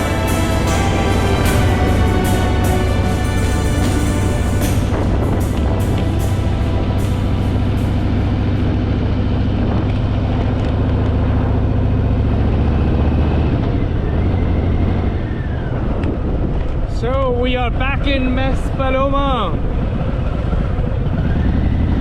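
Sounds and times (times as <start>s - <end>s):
motorcycle engine running: 0.0s - 16.9s, 19.0s - 22.0s
road and wind noise: 0.0s - 22.0s.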